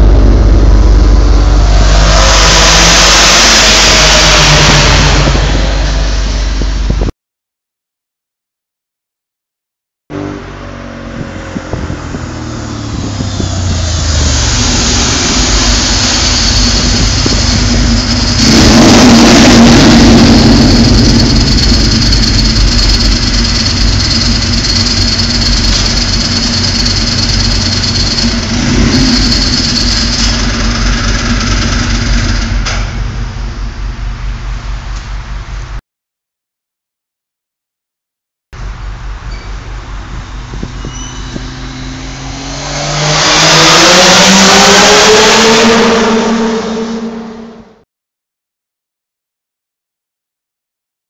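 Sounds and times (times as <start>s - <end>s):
motorcycle engine echoing in tunnel: 0.0s - 7.1s, 10.1s - 35.7s, 38.6s - 47.8s.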